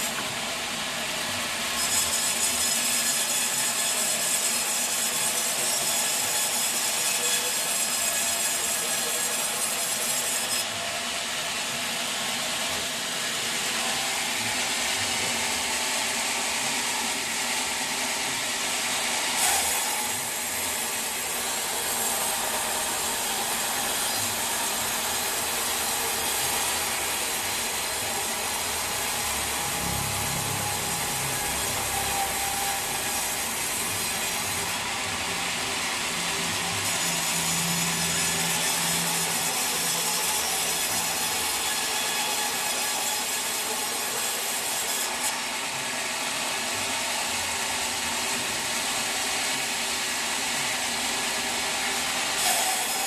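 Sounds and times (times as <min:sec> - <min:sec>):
saw blade cutting log: 0:00.0 - 0:53.0.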